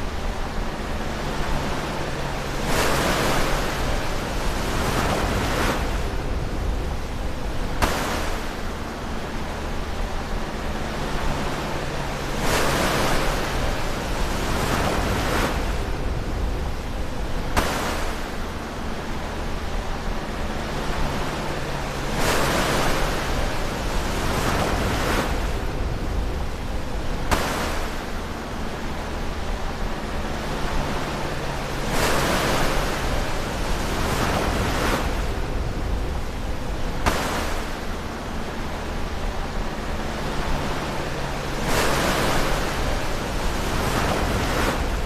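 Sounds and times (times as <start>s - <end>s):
ocean waves breaking: 0.0s - 45.0s.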